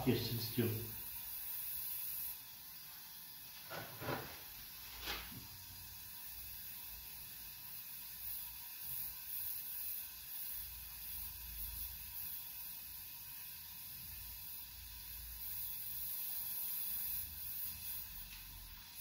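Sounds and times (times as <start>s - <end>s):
gas torch flame hissing: 0.0s - 19.0s.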